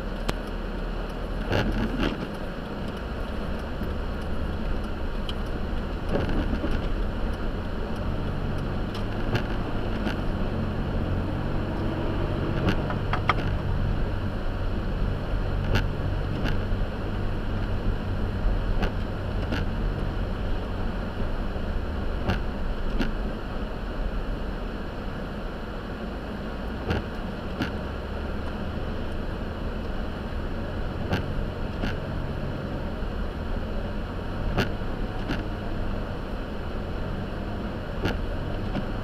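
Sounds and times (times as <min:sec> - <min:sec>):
car engine and tyres rumbling: 0:00.0 - 0:39.0.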